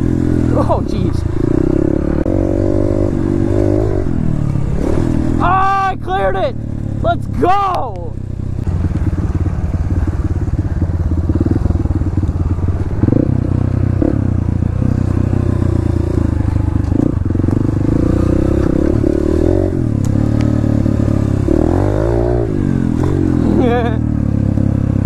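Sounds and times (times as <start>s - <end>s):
dirt bike engine revving: 0.0s - 7.6s, 8.3s - 25.0s.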